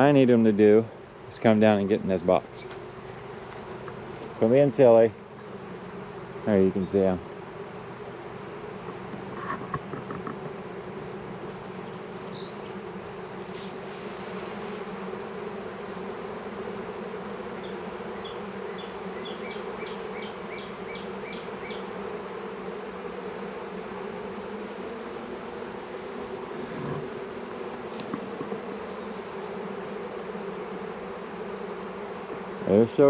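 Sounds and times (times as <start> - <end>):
bee swarm humming: 0.0 - 33.0.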